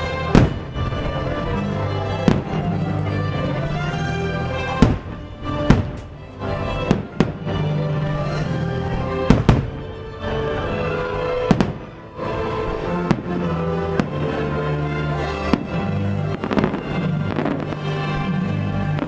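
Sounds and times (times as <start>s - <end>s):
fireworks bangs: 0.0s - 19.0s
show music: 0.0s - 19.0s.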